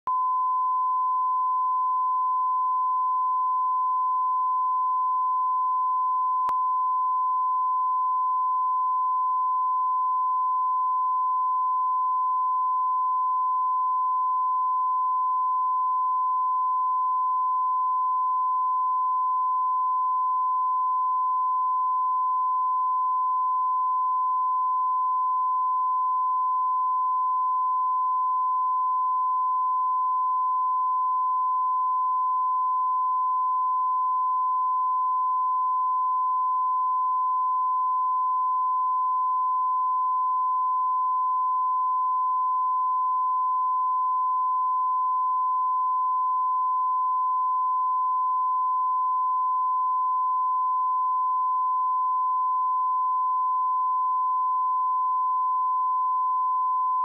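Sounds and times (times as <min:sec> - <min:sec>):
sine wave test tone: 0:00.0 - 0:57.0.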